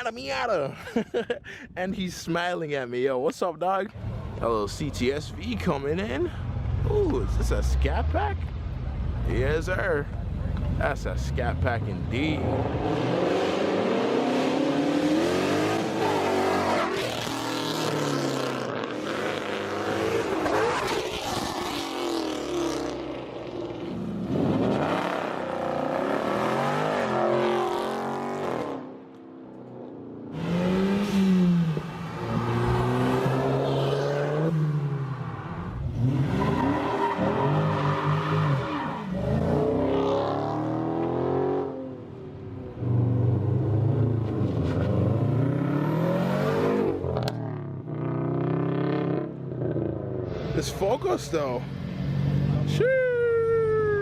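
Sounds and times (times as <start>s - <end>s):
car engines revving: 3.9s - 53.0s.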